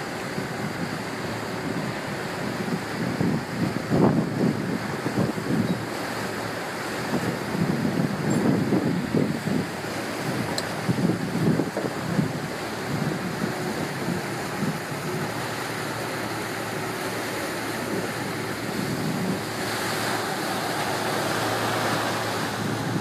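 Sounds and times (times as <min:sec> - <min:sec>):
boat engine hum: 0:00.0 - 0:23.0
water rushing along hull: 0:00.0 - 0:23.0
wind buffeting microphone: 0:00.0 - 0:23.0.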